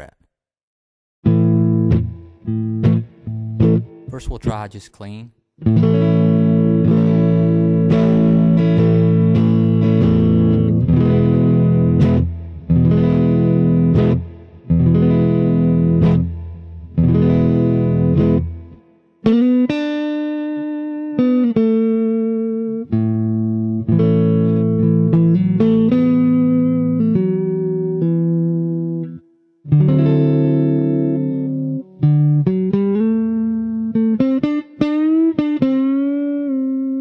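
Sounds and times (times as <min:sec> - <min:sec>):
clean electric guitar chords strummed: 0:01.2 - 0:04.2, 0:05.6 - 0:37.0.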